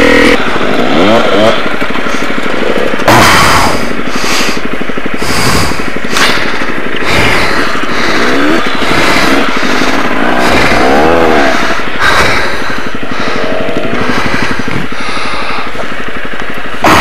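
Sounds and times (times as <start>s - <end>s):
motorcycle engine revving: 0.0s - 17.0s
steady rushing noise: 0.0s - 17.0s.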